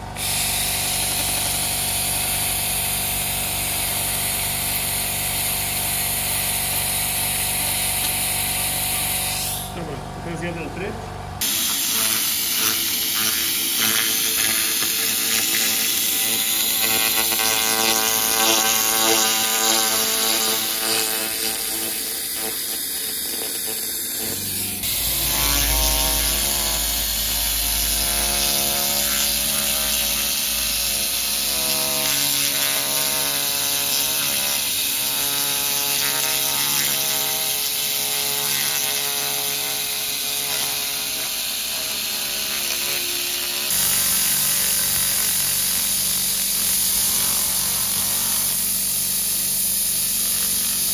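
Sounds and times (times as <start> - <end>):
laser scanning head buzzing whine: 0.0 - 9.8, 11.4 - 50.9.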